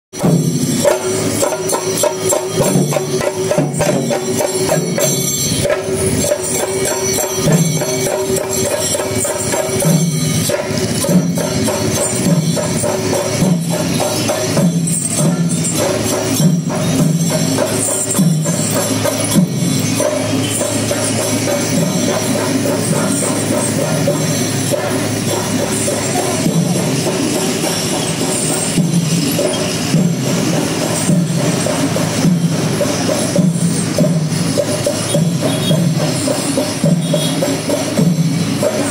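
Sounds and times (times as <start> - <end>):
rhythmic percussion music: 0.1 - 38.9.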